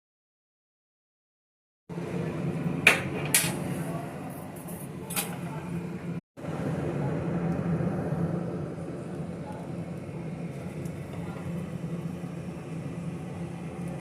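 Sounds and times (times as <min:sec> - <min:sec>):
steady low hum: 0:01.9 - 0:14.0.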